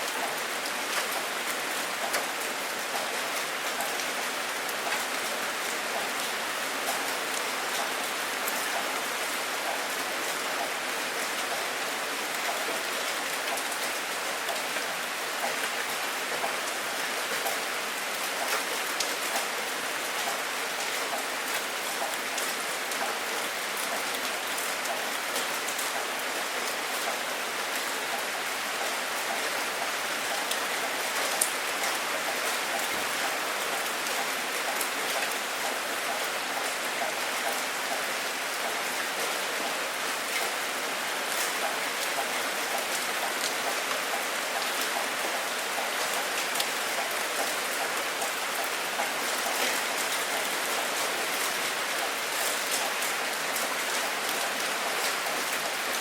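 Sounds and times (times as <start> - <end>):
raindrops ticking on a surface: 0.0 - 56.0
steady rain hiss: 0.0 - 56.0.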